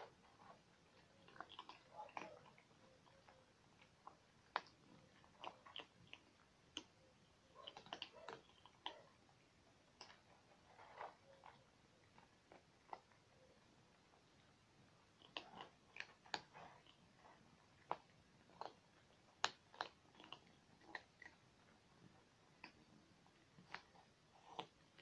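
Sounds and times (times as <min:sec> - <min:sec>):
cats chewing food: 0:00.0 - 0:25.0.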